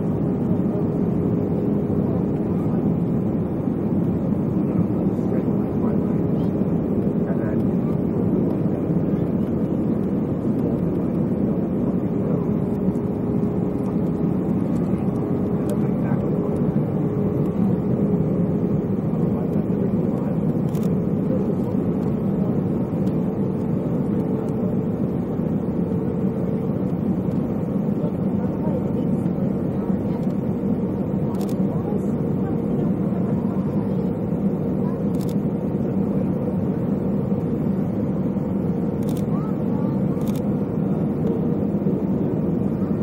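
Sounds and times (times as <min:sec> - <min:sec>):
aircraft cabin drone: 0:00.0 - 0:43.0.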